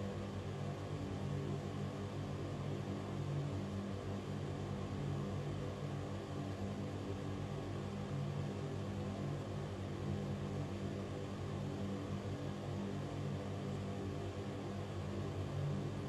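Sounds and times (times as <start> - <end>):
ventilation fan running: 0.0 - 16.0.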